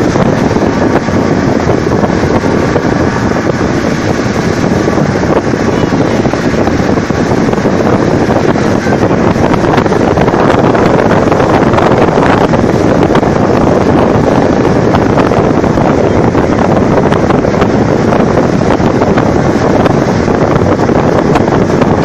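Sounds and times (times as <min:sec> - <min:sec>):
boat wake rushing: 0:00.0 - 0:22.0
wind noise on microphone: 0:00.0 - 0:22.0.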